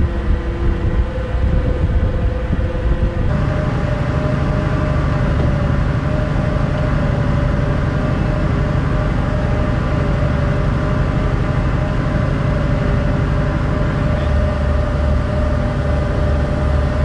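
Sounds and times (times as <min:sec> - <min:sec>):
constant hum: 0:00.0 - 0:17.0
ship engines droning: 0:00.0 - 0:17.0.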